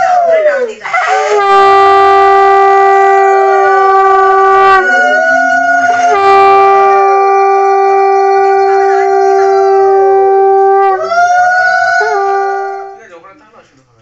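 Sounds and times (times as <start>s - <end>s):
conch shell blown: 1.0s - 13.0s.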